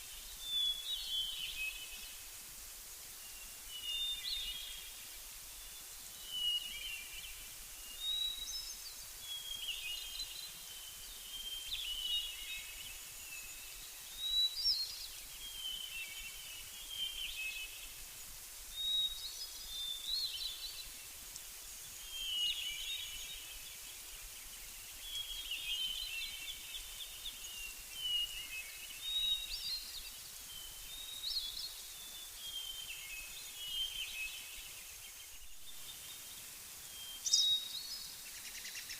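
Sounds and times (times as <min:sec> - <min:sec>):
faint steady hiss: 0:00.0 - 0:38.9
songbirds chirping: 0:00.0 - 0:38.9.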